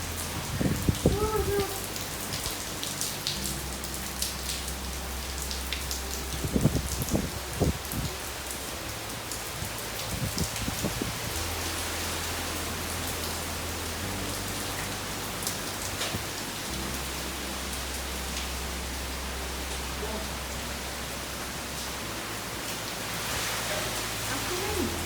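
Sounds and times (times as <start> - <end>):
rain pattering on surfaces: 0.0 - 25.0.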